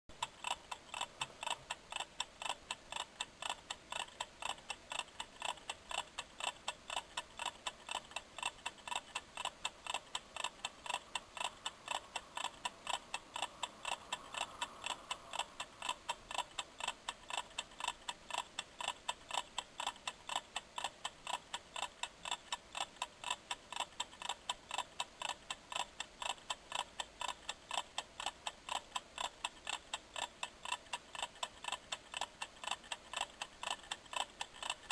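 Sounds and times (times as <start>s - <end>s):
kitchen timer ticking: 0.2s - 34.9s.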